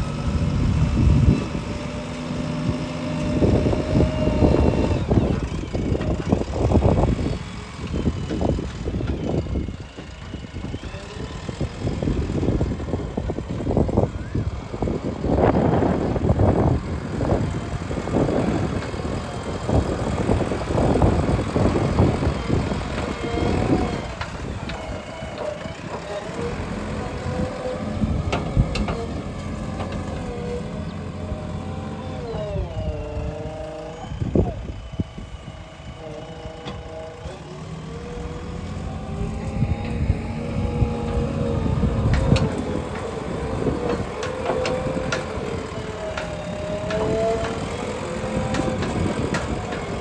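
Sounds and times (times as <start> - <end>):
backhoe diesel engine: 0.0 - 50.0.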